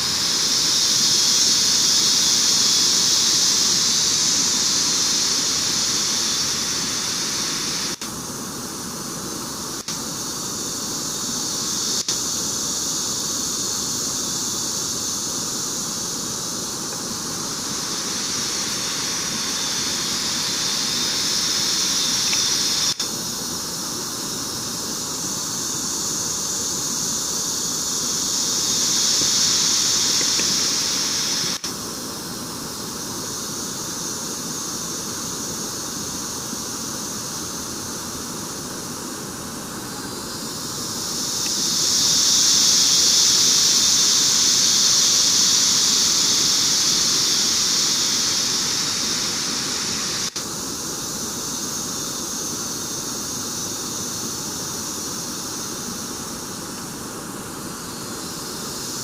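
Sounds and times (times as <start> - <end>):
forest ambience hiss: 0.0 - 59.0
insects buzzing: 0.0 - 59.0.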